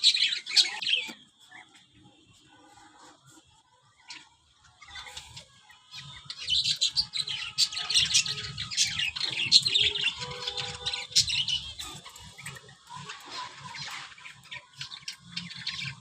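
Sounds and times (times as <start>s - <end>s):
chorus of small birds chirping: 0.0s - 16.0s.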